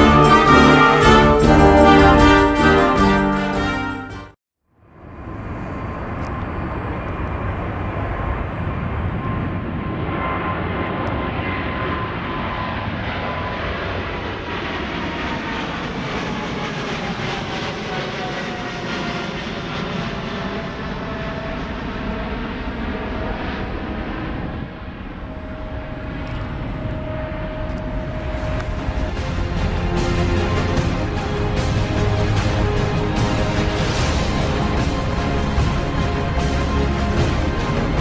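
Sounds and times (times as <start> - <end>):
jet airliner rumble with whine: 4.8 - 38.0.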